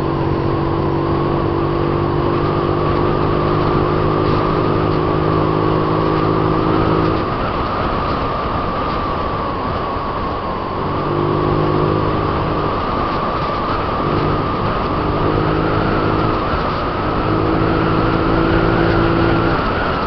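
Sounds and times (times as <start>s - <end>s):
scooter engine hum: 0.0s - 20.0s
wind and road noise: 0.0s - 20.0s.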